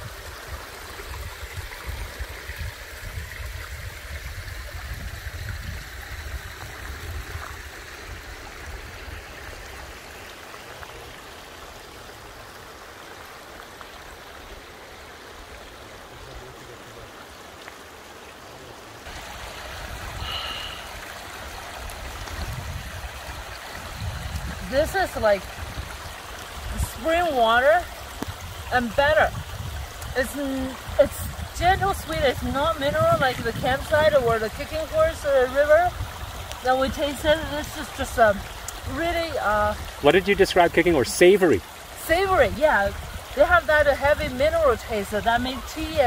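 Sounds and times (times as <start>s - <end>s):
stream trickling over rocks: 0.0s - 46.0s.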